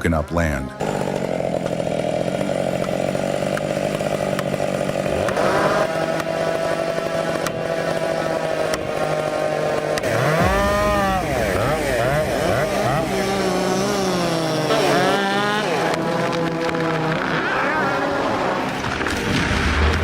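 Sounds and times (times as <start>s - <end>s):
chainsaws revving: 0.0s - 20.0s.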